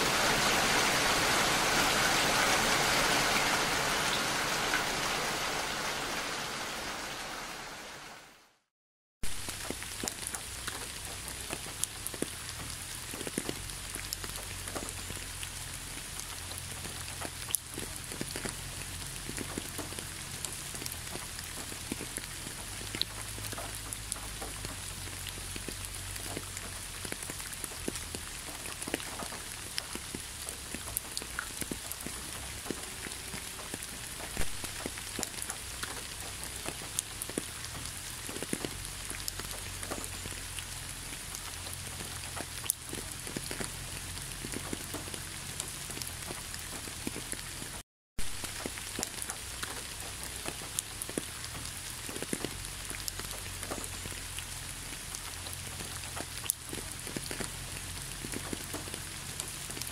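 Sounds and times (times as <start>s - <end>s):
steady rain hiss: 0.0s - 59.9s
raindrops ticking: 9.2s - 59.9s.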